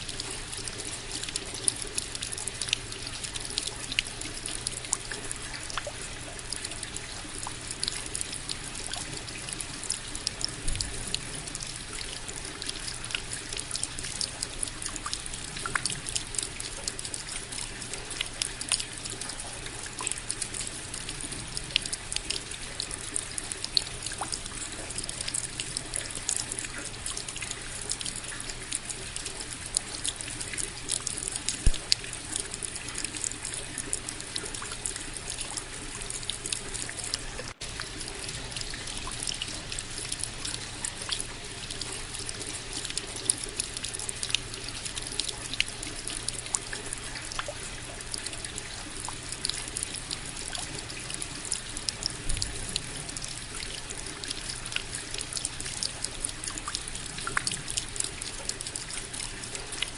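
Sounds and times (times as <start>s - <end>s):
steady rain: 0.0s - 59.9s
trickle of running water: 0.0s - 59.9s.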